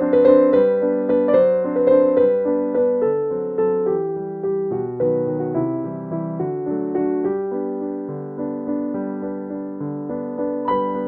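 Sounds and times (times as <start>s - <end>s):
piano notes and chords: 0.0s - 11.0s.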